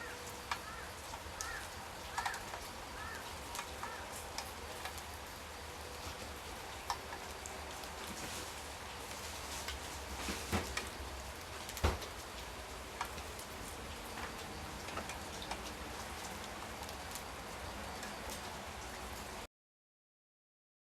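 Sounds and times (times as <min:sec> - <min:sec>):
steady rain: 0:00.0 - 0:19.5.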